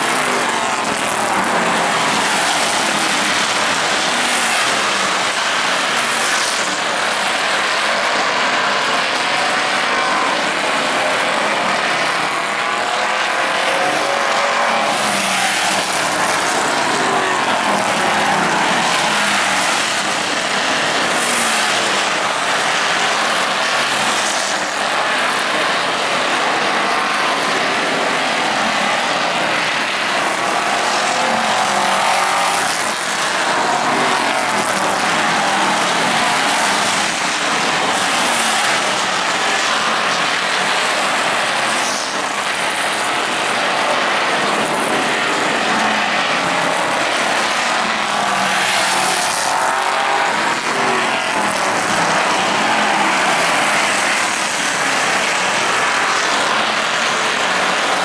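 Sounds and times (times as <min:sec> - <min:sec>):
race car engines roaring: 0:00.0 - 0:58.0.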